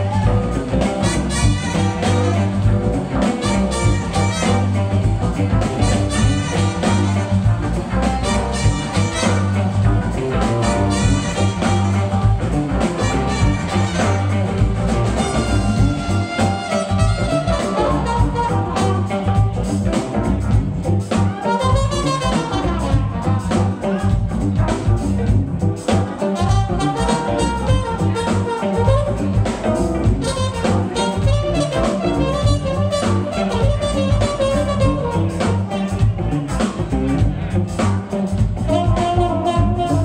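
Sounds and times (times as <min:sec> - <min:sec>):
drum kit beat: 0:00.0 - 0:40.0
funk band playing: 0:00.0 - 0:40.0
horns: 0:00.0 - 0:40.0.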